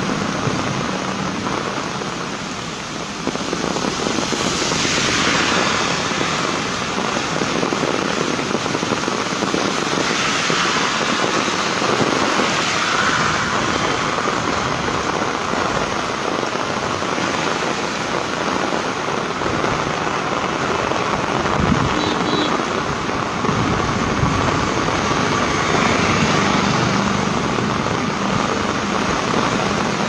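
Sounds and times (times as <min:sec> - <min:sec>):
heavy rain on pavement: 0:00.0 - 0:30.0.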